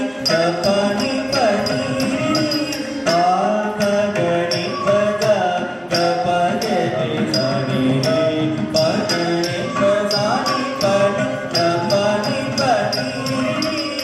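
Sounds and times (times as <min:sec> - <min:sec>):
metallic percussion strokes: 0:00.0 - 0:14.0
person singing: 0:00.0 - 0:14.0.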